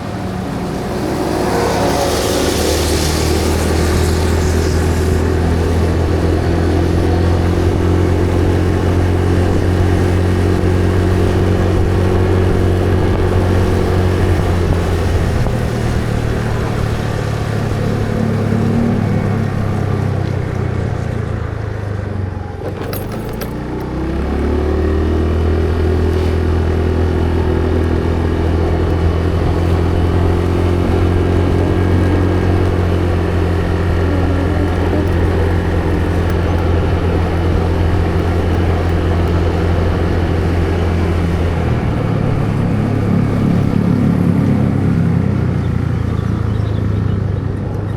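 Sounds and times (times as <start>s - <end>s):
road and wind noise: 0.0s - 47.9s
vehicle engine running: 0.0s - 47.9s.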